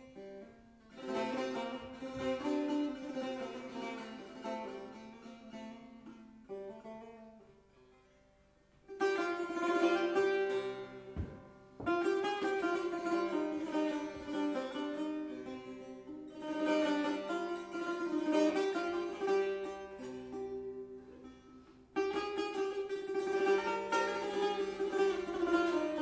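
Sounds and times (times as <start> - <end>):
plucked lute notes: 0.0 - 26.0.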